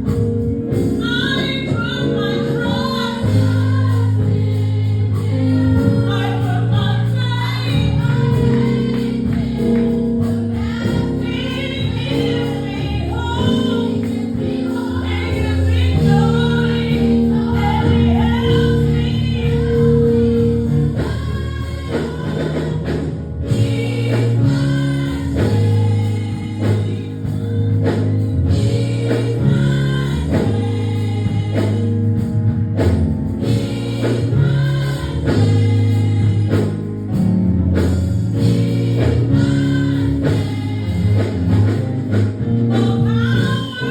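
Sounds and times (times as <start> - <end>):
gospel choir singing: 0.0 - 43.9.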